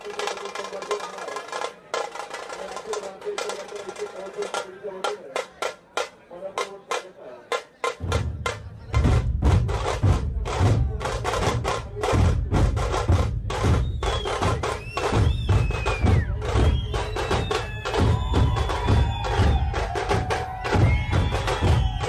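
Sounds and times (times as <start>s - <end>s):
loud fast drumming: 0.0s - 22.0s.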